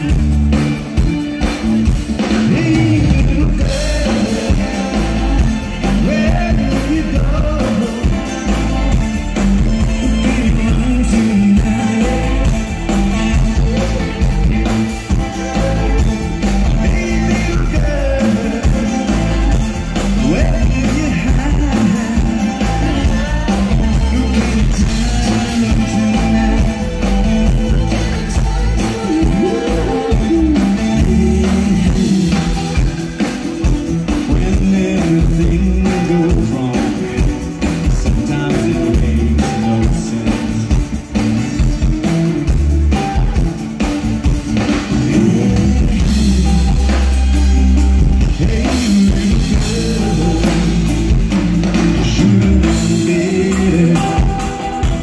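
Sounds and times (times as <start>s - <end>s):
drums: 0.0s - 55.0s
guitar: 0.0s - 55.0s
man singing: 1.4s - 43.4s, 44.6s - 55.0s.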